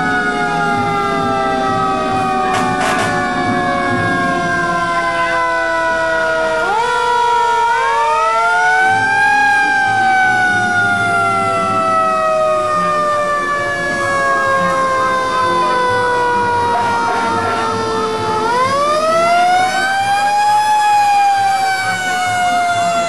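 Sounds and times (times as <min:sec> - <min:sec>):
fire engine sirens wailing: 0:00.0 - 0:23.0
truck engines rumbling: 0:00.0 - 0:23.0.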